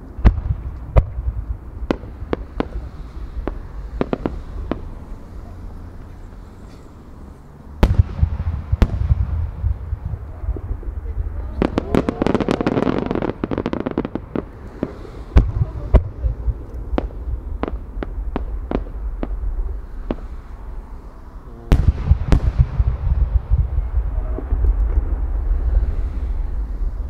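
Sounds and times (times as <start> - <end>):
firework bangs: 0.0 - 27.0
fireworks crackling: 0.0 - 27.0
heavy low rumble: 0.0 - 27.0.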